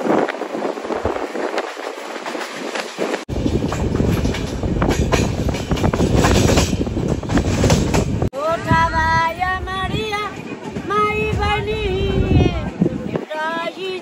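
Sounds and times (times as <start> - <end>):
train rumbling and clacking: 0.0 - 14.0.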